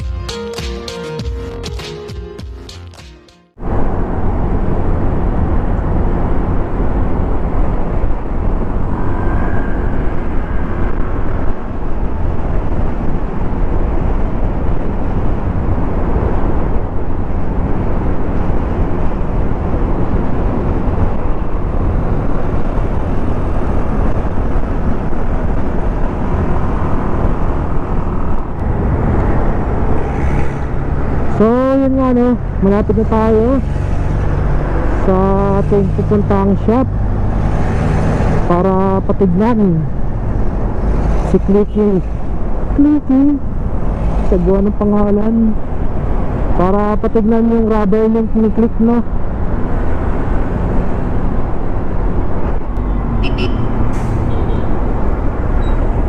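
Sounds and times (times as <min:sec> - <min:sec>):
wind and road noise: 0:03.5 - 0:56.0.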